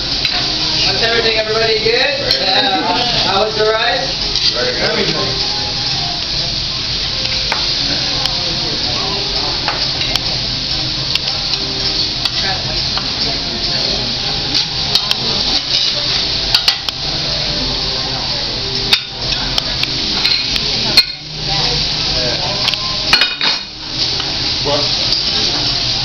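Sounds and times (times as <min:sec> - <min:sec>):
food sizzling on a griddle: 0:00.0 - 0:26.0.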